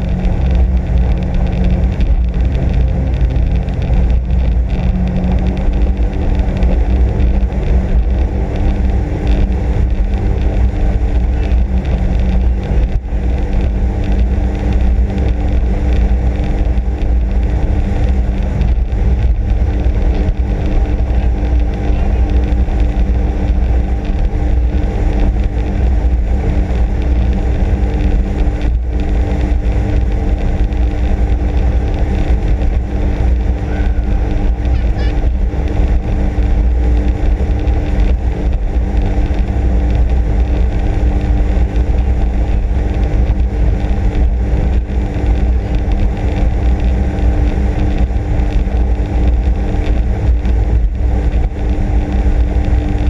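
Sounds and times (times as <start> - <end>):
jet ski engine running: 0.0 - 53.0.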